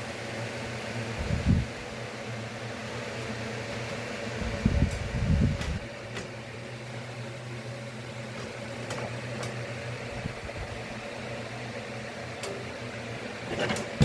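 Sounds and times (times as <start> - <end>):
fan humming: 0.0 - 14.0.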